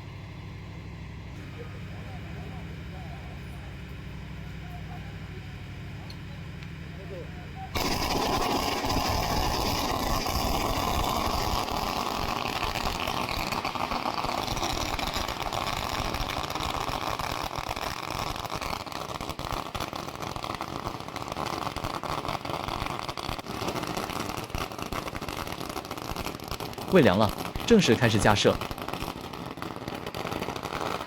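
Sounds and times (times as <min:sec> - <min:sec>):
firecrackers crackling: 0:00.0 - 0:31.0.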